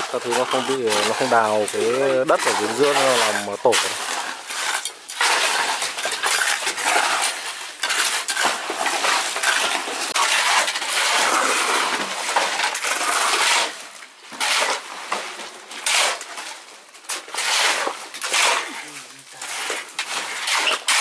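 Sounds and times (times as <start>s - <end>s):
shovels and trowels scraping: 0.0s - 21.0s.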